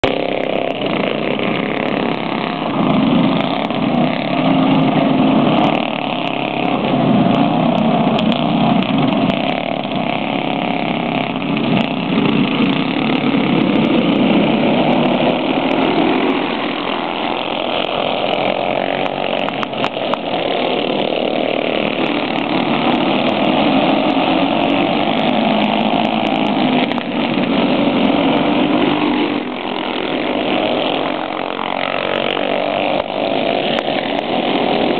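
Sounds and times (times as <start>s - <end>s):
racing kart engines: 0.0s - 34.9s.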